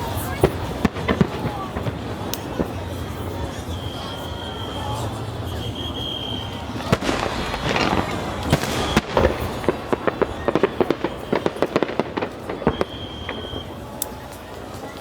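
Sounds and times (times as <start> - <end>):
firework bangs: 0.0 - 15.0
rapid firework crackling: 0.0 - 15.0.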